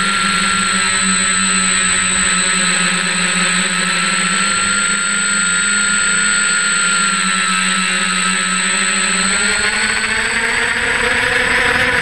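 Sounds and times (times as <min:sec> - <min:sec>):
drone motors and propellers whining: 0:00.0 - 0:12.0.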